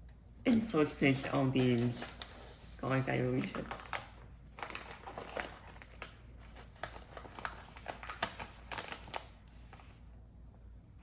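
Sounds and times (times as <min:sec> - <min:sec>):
snack packaging crackling: 0:00.5 - 0:09.5.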